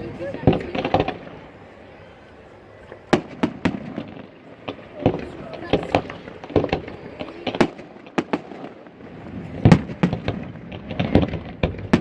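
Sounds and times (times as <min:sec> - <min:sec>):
fireworks bangs and crackles: 0:00.0 - 0:01.8, 0:02.6 - 0:12.0.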